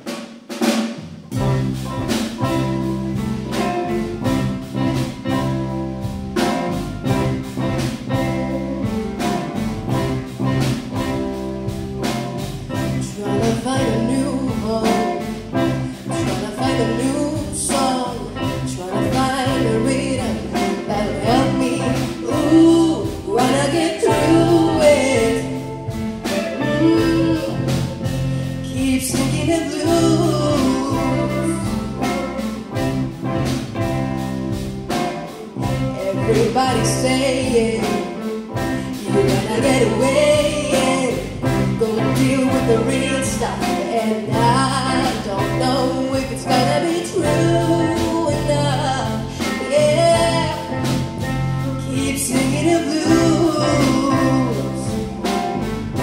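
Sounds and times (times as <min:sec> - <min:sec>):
person singing: 0:06.4 - 0:34.0, 0:34.9 - 0:56.0.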